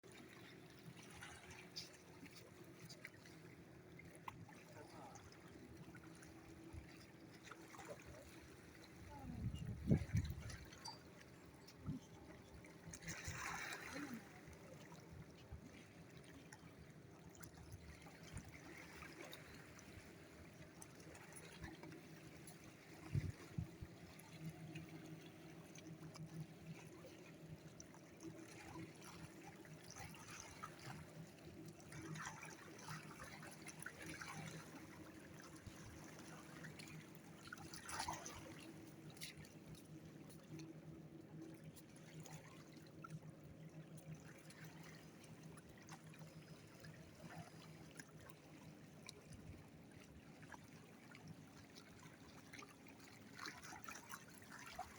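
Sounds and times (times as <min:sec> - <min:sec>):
small water splashes: 0:00.0 - 0:54.9
water trickling and lapping: 0:00.0 - 0:54.9.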